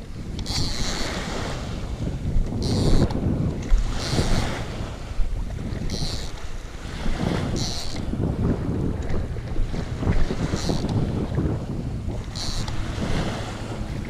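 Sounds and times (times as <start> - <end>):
small waves lapping against boat: 0.0 - 14.0
wind buffeting microphone: 0.0 - 14.0.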